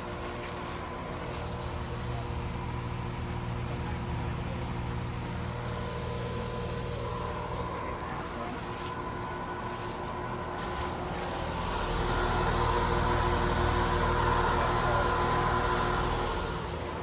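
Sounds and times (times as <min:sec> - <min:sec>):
condenser fan blowing: 0:00.0 - 0:17.0
heat pump compressor hum: 0:00.0 - 0:17.0.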